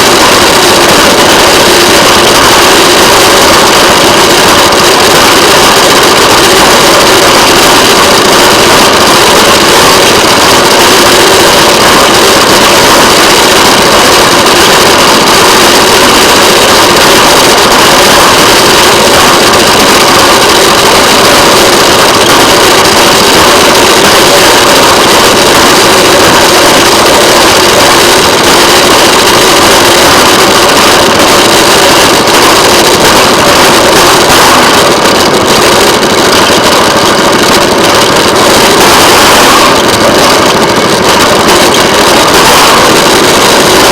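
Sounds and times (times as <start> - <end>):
small engine running on track: 0.0 - 43.9.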